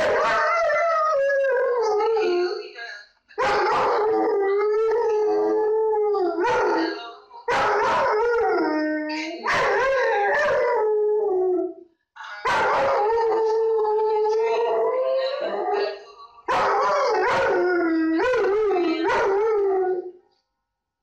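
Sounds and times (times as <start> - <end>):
dog howling: 0.0 - 2.6, 3.4 - 11.8, 12.4 - 15.9, 16.5 - 20.1.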